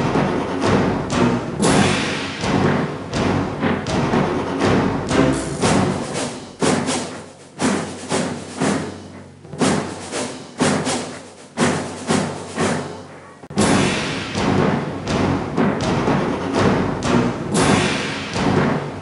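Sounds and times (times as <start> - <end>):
music with heavy percussive beat: 0.0 - 19.0.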